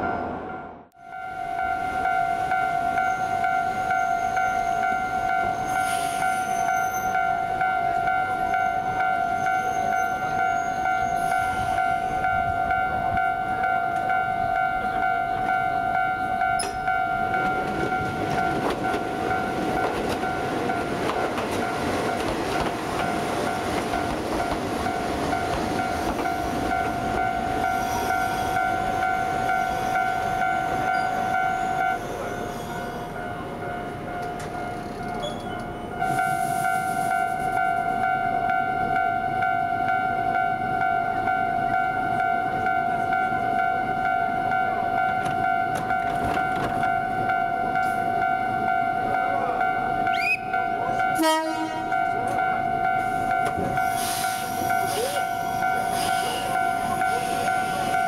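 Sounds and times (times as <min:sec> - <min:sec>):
electric train whine: 0:00.0 - 0:58.0
train wheels rumbling on rail: 0:01.6 - 0:38.6, 0:41.6 - 0:58.0.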